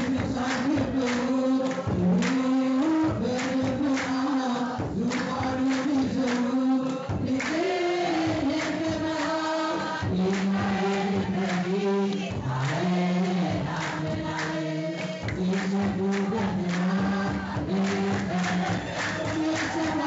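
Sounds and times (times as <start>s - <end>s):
congregation chanting a hymn: 0.0s - 20.0s
steady drum beat: 0.0s - 20.0s.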